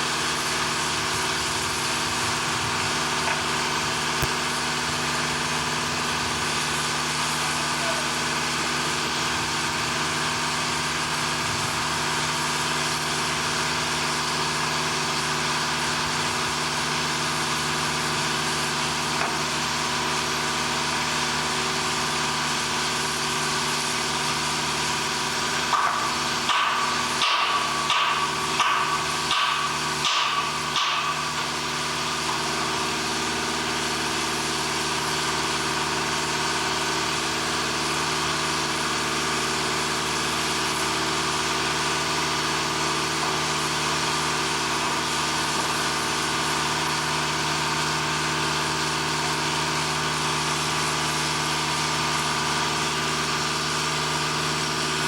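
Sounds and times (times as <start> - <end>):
heavy machinery engine running: 0.0 - 55.0.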